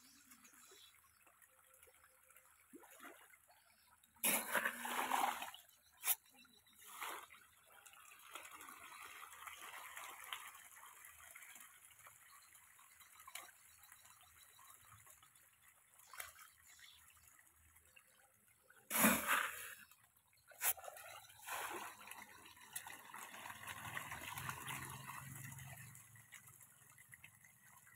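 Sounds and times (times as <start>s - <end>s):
fish splashing in water: 4.2s - 18.0s, 18.9s - 27.9s.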